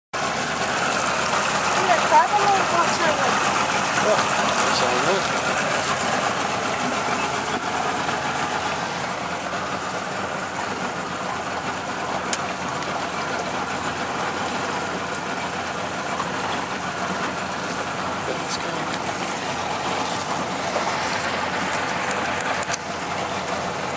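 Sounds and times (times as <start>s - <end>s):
small boat motor running: 0.2s - 23.9s
wind and water rushing: 0.2s - 23.9s.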